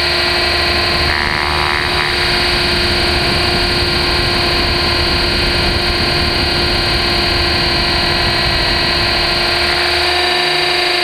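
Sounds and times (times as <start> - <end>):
helicopter motor whine: 0.0 - 11.0
rotor and wind rush: 0.0 - 11.0.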